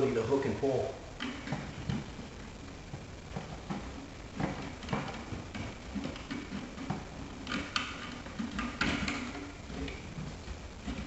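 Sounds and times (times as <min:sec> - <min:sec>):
scraping rustles: 0:00.0 - 0:11.0
wire scraping inside wall: 0:01.2 - 0:11.0.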